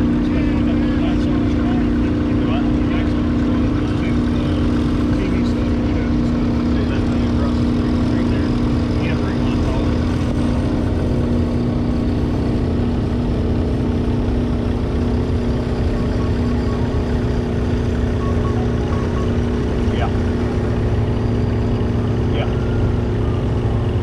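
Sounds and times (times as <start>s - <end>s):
tractor engine running steadily: 0.0s - 24.0s.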